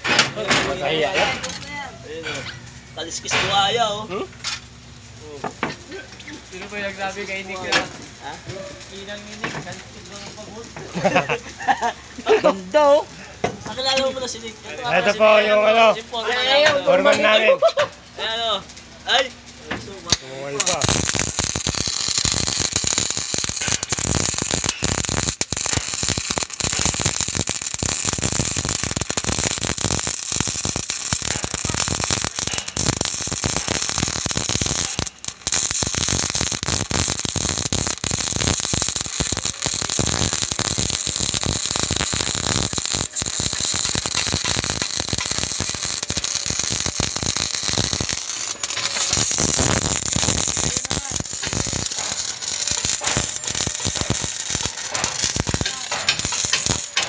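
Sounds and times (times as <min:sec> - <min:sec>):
welding arc crackling: 0:00.0 - 0:57.0.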